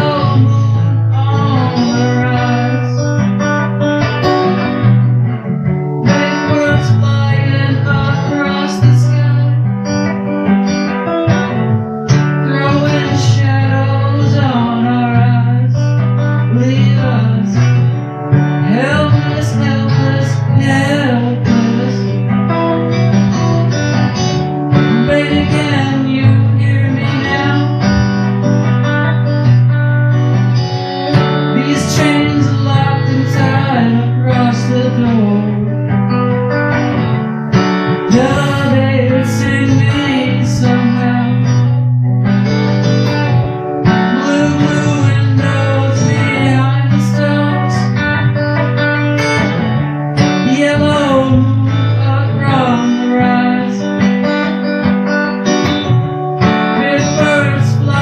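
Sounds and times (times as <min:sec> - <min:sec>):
electric guitar: 0:00.0 - 0:58.0
strummed acoustic guitar: 0:00.0 - 0:58.0.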